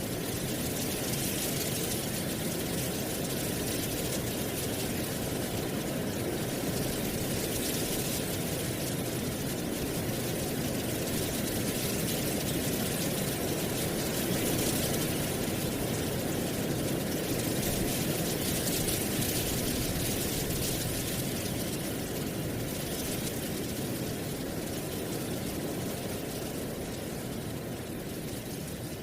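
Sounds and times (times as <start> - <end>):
wind rustling dry leaves: 0.0 - 29.0.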